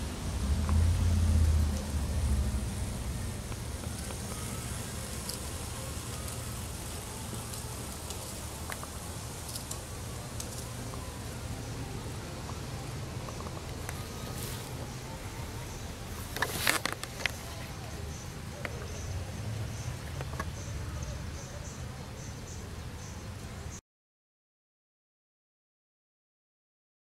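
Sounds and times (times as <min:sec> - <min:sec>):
model train rumbling: 0:00.0 - 0:23.7.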